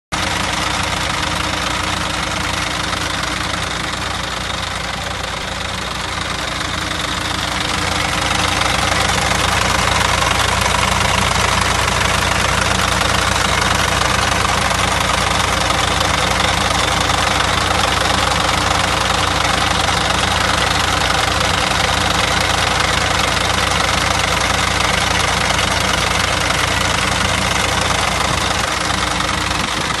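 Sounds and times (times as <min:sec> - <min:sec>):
diesel bus engine idling: 0:00.1 - 0:30.0.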